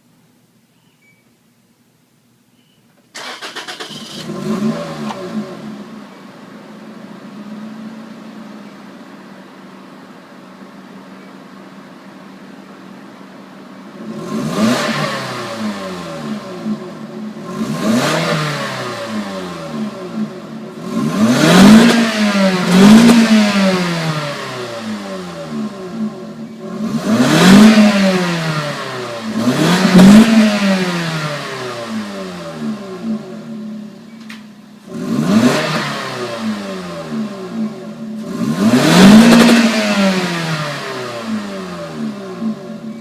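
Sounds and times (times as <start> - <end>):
car engine idling and revving: 3.1 - 43.0.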